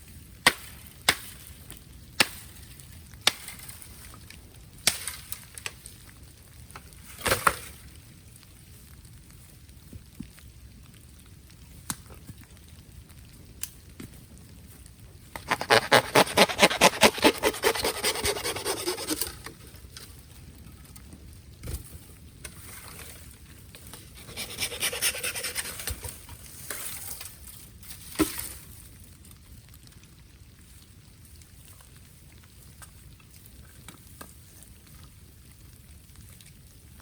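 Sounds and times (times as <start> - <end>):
bamboo sputtering in fire: 0.0 - 37.0.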